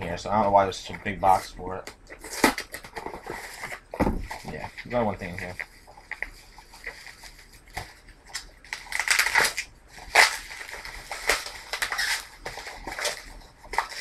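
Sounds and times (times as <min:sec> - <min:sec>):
packing material crinkling: 0:01.0 - 0:14.0.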